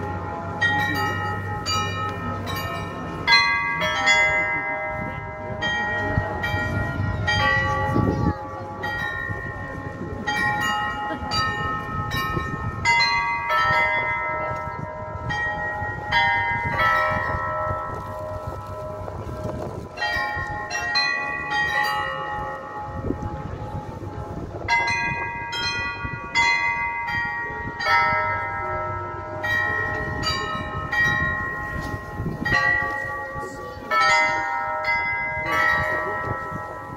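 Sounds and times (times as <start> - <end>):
clock bells playing a tune: 0.0 - 36.9.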